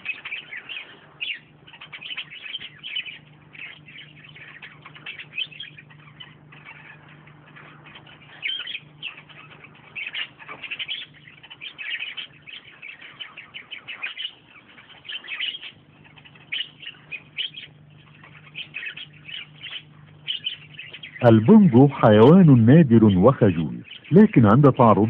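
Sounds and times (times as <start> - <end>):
birds chirping: 0.0 - 25.0
faint low hum: 0.0 - 25.0.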